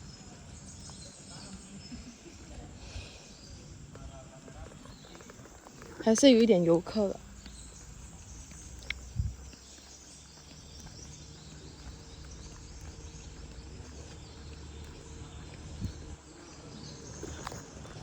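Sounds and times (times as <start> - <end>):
car moving slowly: 0.0 - 18.0.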